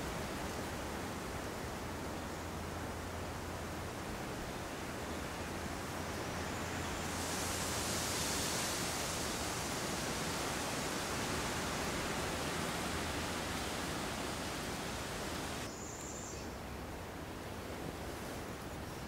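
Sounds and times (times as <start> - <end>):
swamp forest ambient hiss: 0.0 - 19.0.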